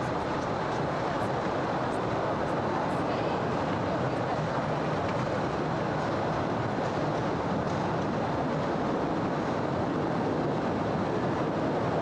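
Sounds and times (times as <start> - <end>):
small train running on track: 0.0 - 12.0.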